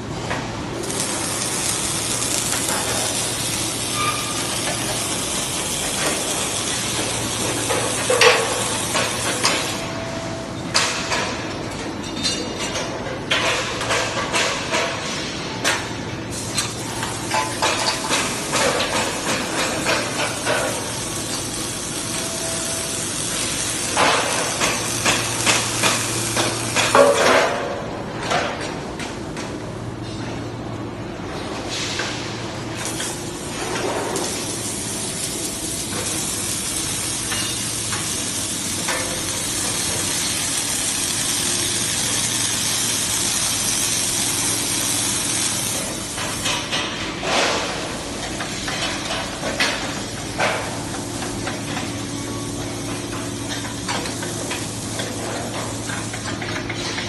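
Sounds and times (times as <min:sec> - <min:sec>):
welding arc sizzling and crackling: 0:00.0 - 0:10.0, 0:10.7 - 0:29.5, 0:31.3 - 0:57.0.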